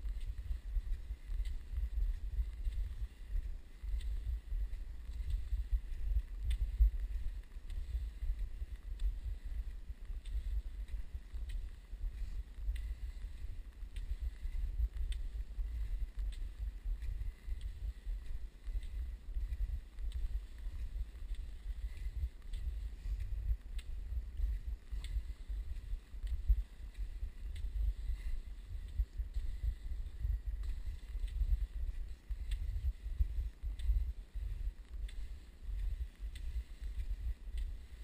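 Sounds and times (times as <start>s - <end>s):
skiing strokes on snow: 0.0s - 38.0s
wind buffeting microphone: 0.0s - 38.0s.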